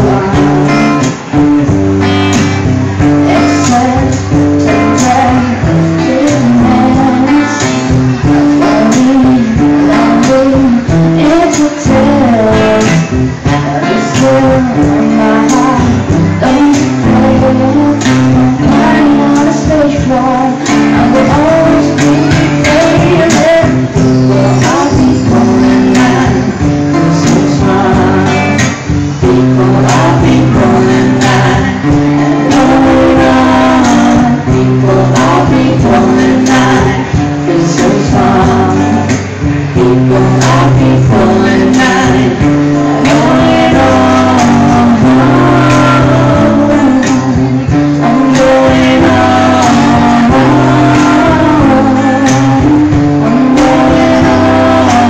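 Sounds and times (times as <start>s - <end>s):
cajon beat: 0.0s - 55.0s
man singing: 0.0s - 55.0s
strummed acoustic guitar: 0.0s - 55.0s.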